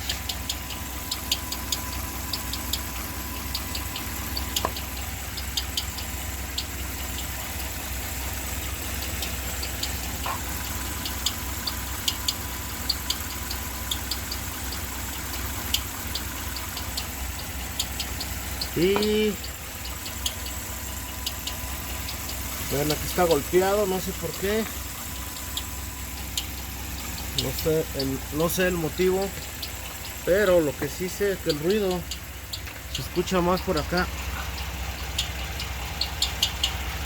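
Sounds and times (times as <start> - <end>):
car engine idling: 0.0 - 37.0
chirping tick inside engine: 0.0 - 37.0.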